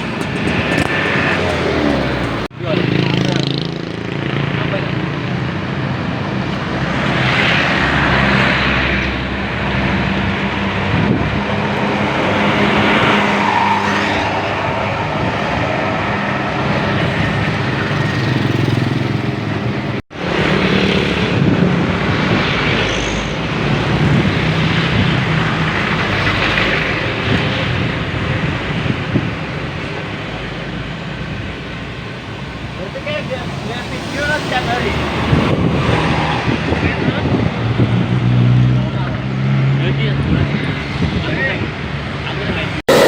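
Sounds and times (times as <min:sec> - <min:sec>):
bus engines droning: 0:00.0 - 0:43.0
traffic and road noise: 0:00.0 - 0:43.0.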